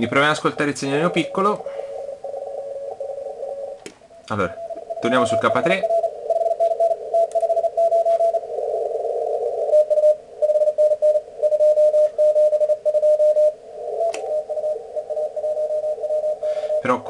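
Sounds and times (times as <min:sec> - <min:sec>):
radio band hiss: 0:00.0 - 0:12.1, 0:12.8 - 0:17.0
morse code tone: 0:00.0 - 0:17.0.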